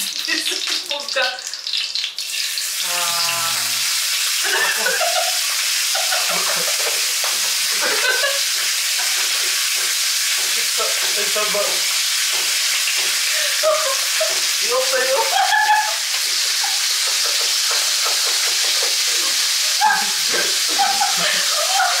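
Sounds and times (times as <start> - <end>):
bacon sizzling in a frying pan: 0.0 - 22.0.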